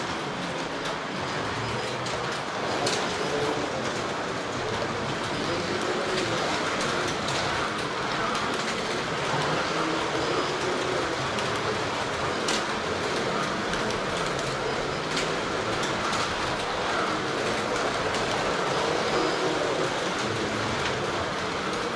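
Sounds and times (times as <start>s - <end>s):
slot cars running on track: 0.0s - 21.9s.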